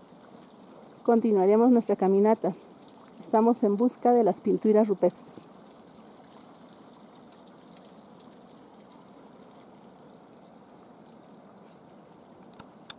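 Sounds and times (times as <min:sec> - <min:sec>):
water trickling over ice and rocks: 0:00.0 - 0:12.9.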